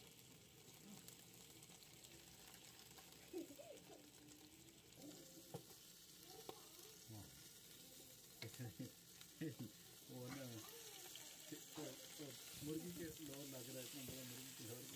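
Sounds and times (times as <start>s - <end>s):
meat sizzling in a pan: 0.0s - 14.9s.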